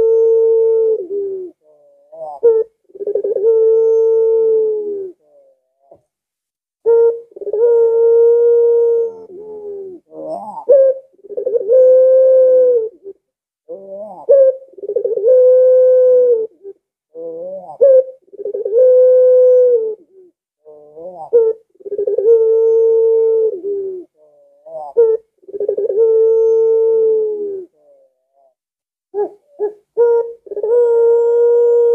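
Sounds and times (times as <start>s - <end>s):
dove cooing: 0.0s - 6.0s, 6.8s - 28.6s, 29.2s - 31.9s.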